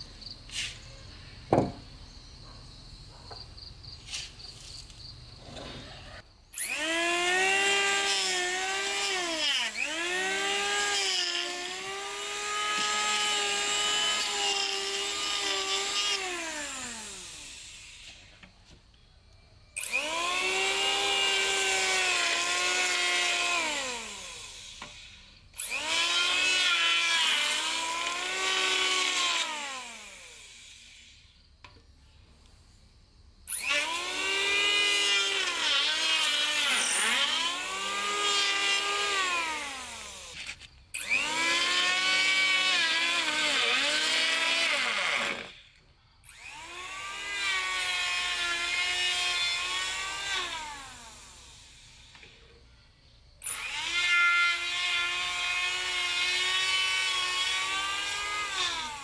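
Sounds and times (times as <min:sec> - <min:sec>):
electric power tool motor: 0:05.4 - 0:18.3, 0:19.8 - 0:31.3, 0:33.5 - 0:52.4, 0:53.4 - 0:59.0.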